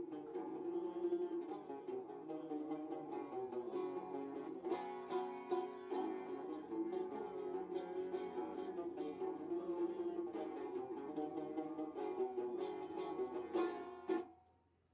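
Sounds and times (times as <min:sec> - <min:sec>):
plucked string instrument music: 0:00.0 - 0:14.4.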